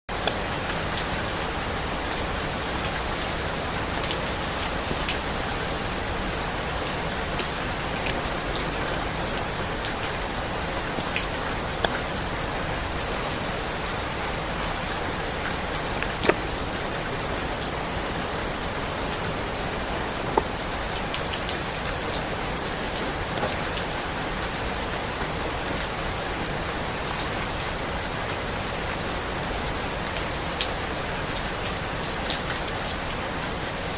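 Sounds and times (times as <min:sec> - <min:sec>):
raindrops ticking: 0:00.1 - 0:33.9
steady rainfall: 0:00.1 - 0:33.9.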